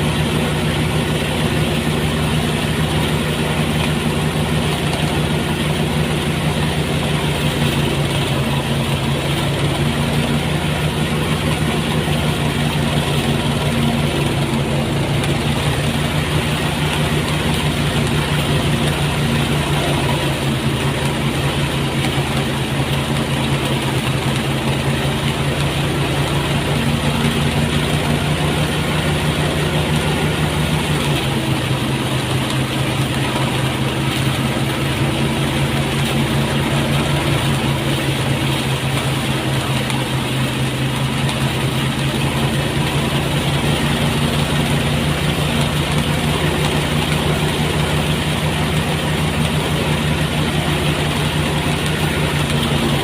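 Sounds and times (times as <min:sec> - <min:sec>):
rice thresher engine drone: 0:00.0 - 0:53.0.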